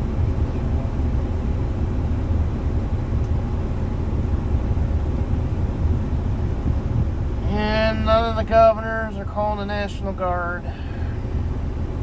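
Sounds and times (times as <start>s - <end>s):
diesel truck rumble from cab: 0.0s - 12.0s.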